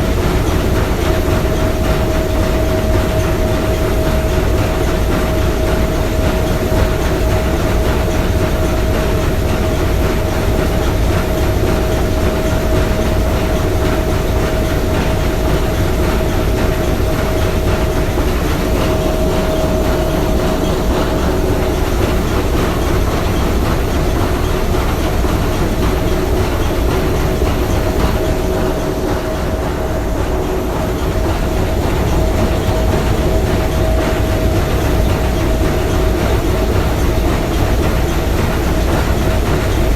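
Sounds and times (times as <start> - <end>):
steam engine clattering: 0.0 - 39.9.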